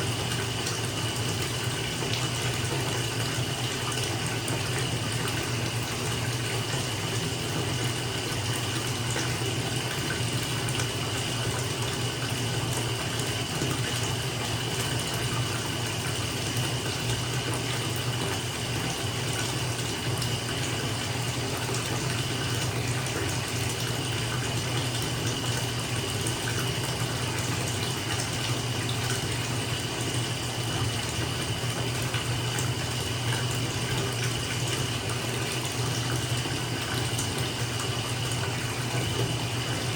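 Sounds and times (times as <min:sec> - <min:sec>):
tap water filling bathtub: 0:00.0 - 0:39.9.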